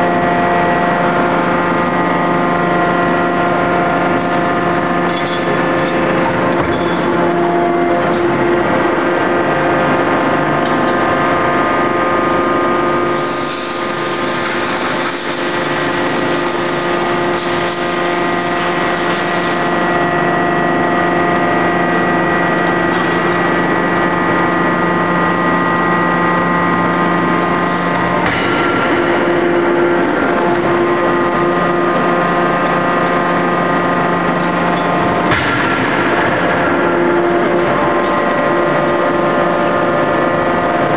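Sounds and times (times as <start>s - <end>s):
machinery humming: 0.0s - 40.9s.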